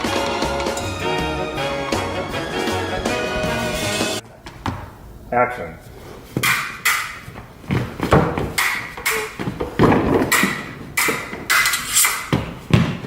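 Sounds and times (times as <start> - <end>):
scuffing footsteps: 0.0 - 5.0, 5.8 - 11.5.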